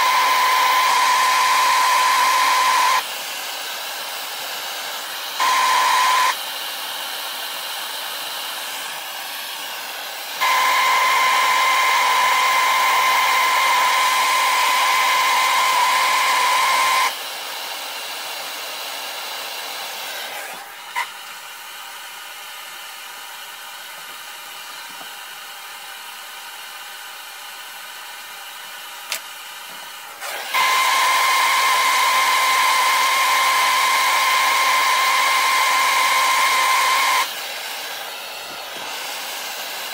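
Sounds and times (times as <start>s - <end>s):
gas torch hissing: 0.0s - 39.9s.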